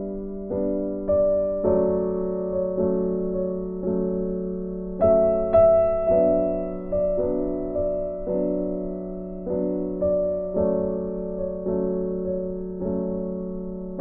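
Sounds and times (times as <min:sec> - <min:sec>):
soft piano chords: 0:00.0 - 0:14.0.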